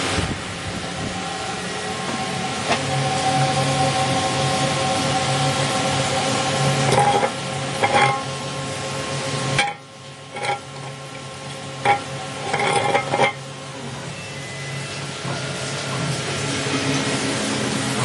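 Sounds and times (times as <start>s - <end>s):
lathe machine hum: 0.0s - 18.0s
machine running noise: 0.0s - 18.0s.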